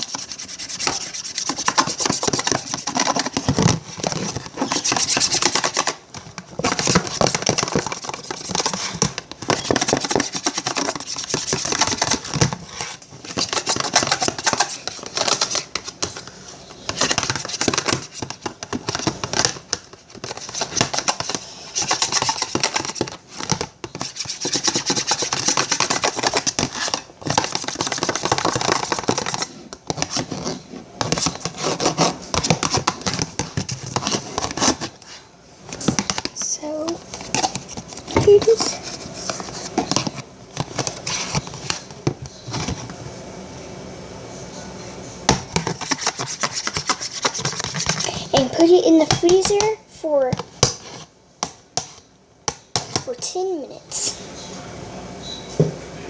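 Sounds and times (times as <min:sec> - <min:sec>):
utensil scraping slime in bowl: 0:00.0 - 0:06.0, 0:06.6 - 0:41.8, 0:45.6 - 0:51.1.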